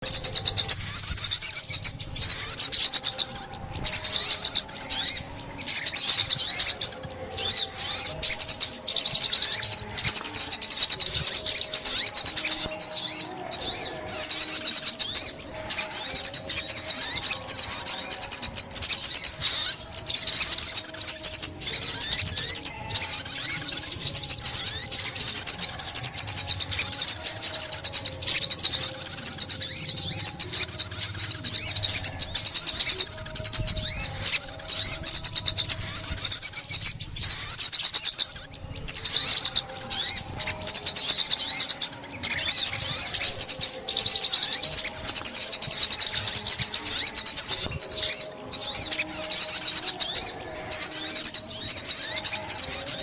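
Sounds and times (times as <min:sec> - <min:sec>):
bird twittering song: 0:00.0 - 0:53.0.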